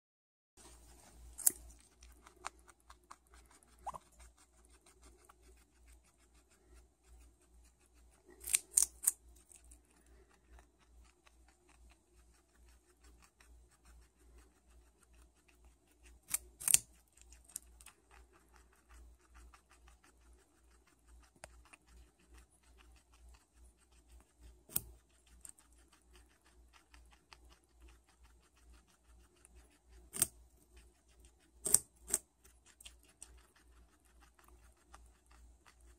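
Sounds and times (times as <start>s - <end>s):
guinea pig gnawing carrot: 0.6s - 35.9s.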